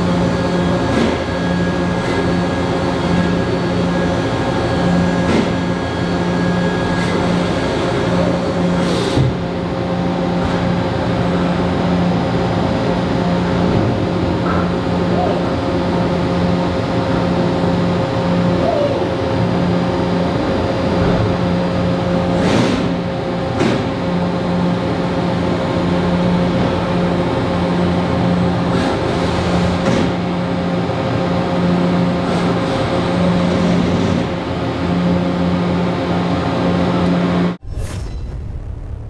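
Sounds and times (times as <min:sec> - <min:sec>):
low machine tone: 0:00.0 - 0:39.0
machine hum and spindle tone: 0:00.0 - 0:39.0.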